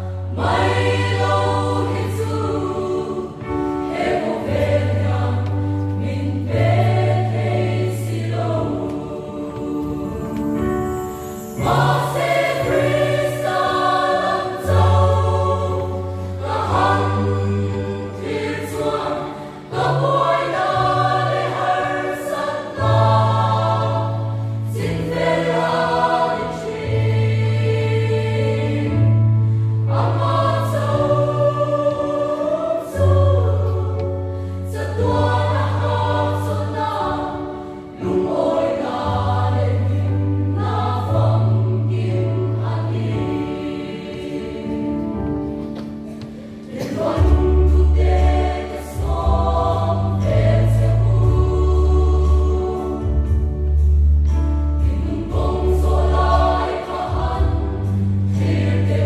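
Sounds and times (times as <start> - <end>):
mixed choir singing a hymn: 0.0 - 59.0.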